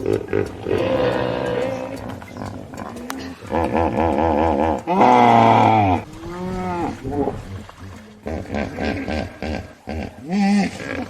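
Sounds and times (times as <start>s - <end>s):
hippopotamus honking: 0.0s - 11.0s.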